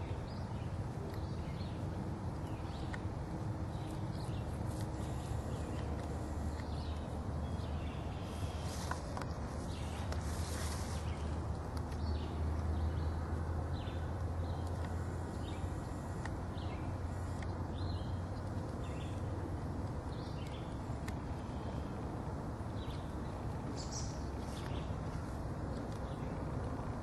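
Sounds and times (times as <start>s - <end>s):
small birds chirping: 0.0s - 26.5s
steady low hum: 0.0s - 27.0s.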